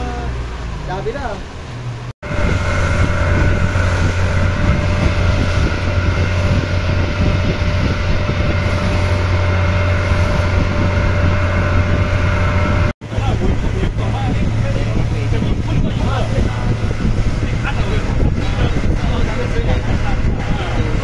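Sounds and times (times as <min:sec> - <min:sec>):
motorboat engine humming: 0:00.0 - 0:21.0
water rushing past hull: 0:00.0 - 0:21.0
wind on microphone: 0:02.2 - 0:21.0.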